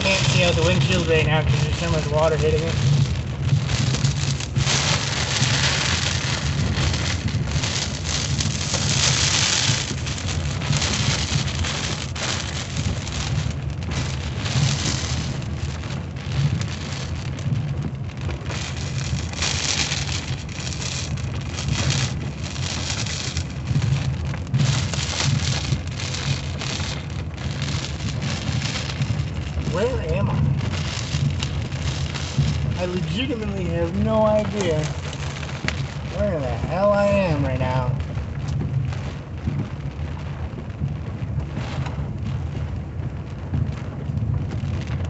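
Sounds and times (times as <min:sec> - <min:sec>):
car low rumble driving: 0:00.0 - 0:45.0
heavy rain on windshield: 0:00.0 - 0:45.0.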